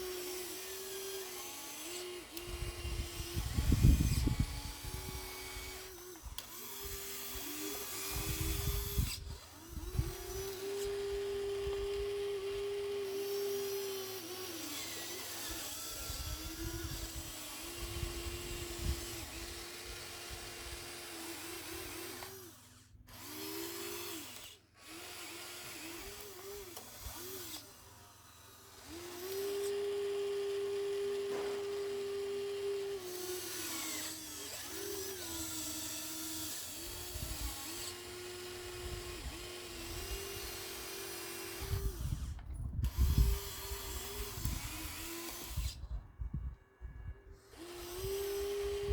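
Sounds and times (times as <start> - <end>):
small electric motor whining: 0.0 - 48.9.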